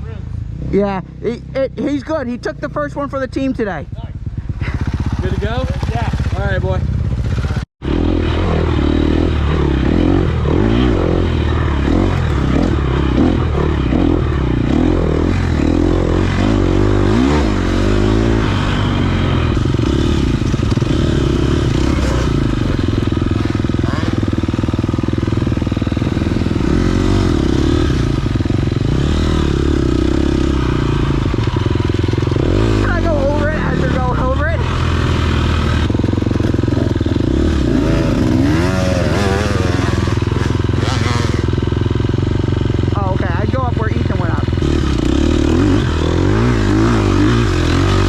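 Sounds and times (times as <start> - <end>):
dirt bike engine revving: 4.6 - 48.0.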